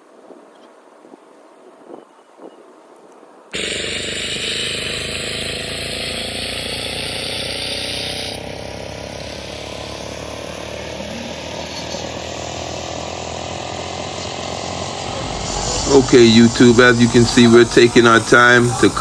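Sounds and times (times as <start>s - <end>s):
angle grinder cutting road: 3.5s - 19.0s.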